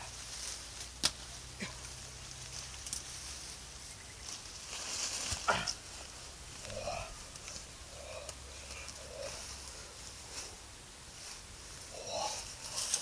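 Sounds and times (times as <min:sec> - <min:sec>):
leaves rustling: 0:00.0 - 0:13.0
twigs cracking: 0:00.1 - 0:10.5, 0:11.3 - 0:13.0.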